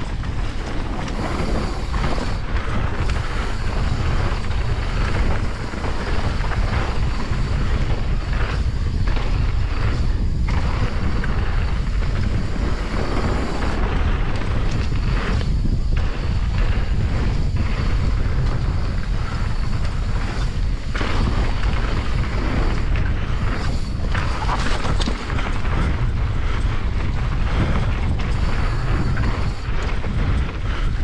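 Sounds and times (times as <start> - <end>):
tyres rolling over loose dirt: 0.0 - 31.0
wind buffeting microphone: 0.0 - 31.0.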